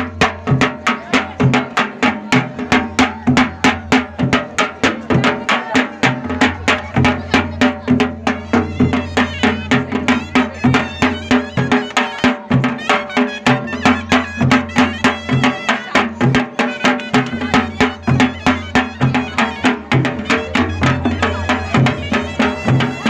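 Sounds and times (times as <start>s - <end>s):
drums beaten with sticks: 0.0s - 23.0s.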